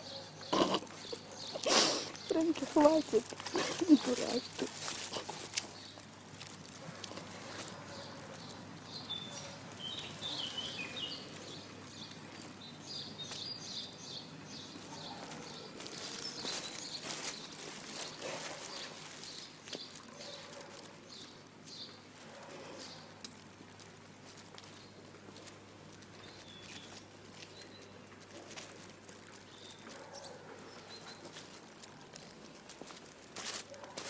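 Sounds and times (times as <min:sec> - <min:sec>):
rustling: 0:00.0 - 0:08.8, 0:14.7 - 0:34.0
small birds chirping: 0:00.0 - 0:33.9.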